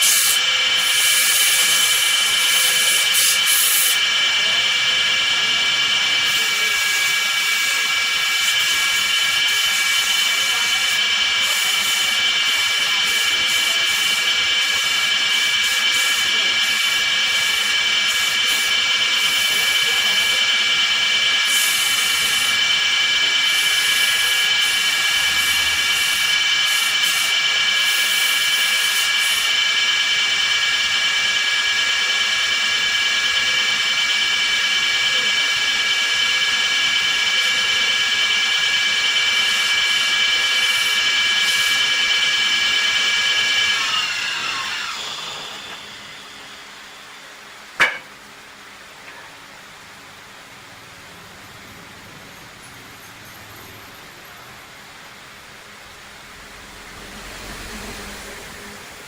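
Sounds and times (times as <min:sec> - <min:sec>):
lathe whining: 0:00.0 - 0:59.0.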